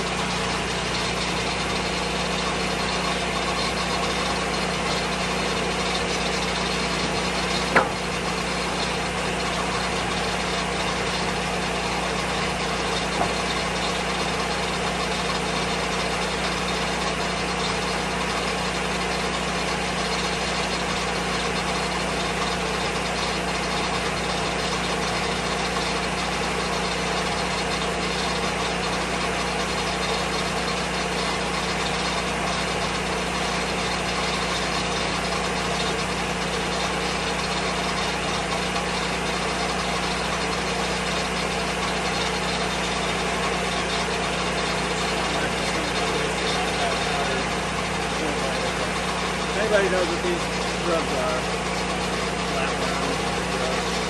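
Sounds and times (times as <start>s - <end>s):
sawmill petrol engine running: 0.0s - 54.0s.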